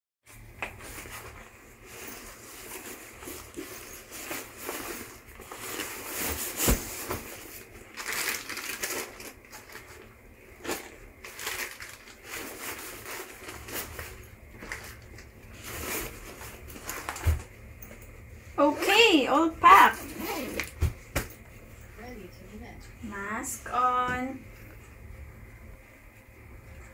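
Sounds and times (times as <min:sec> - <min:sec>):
items rustling packed into bag: 0:00.3 - 0:22.1.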